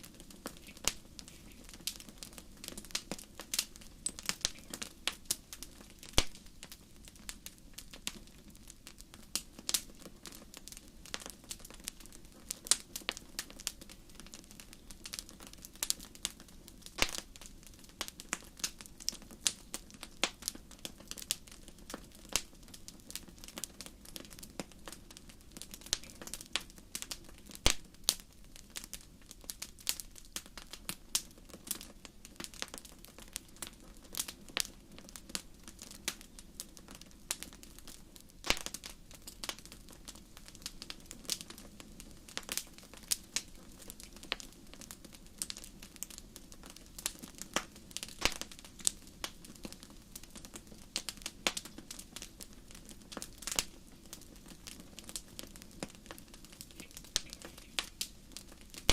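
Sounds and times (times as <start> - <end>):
fire crackling and popping: 0.0 - 58.9
low steady background noise: 0.0 - 58.9.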